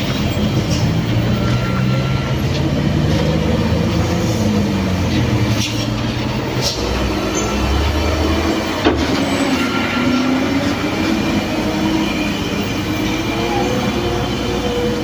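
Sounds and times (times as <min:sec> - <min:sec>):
heavy vehicle engine labouring: 0:00.0 - 0:15.0.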